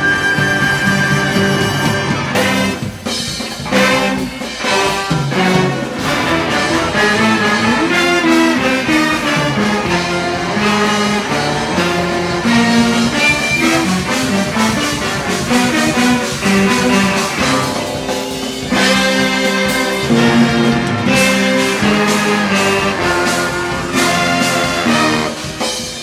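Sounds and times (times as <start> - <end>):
drums: 0.0 - 26.0
horn section playing: 0.0 - 26.0.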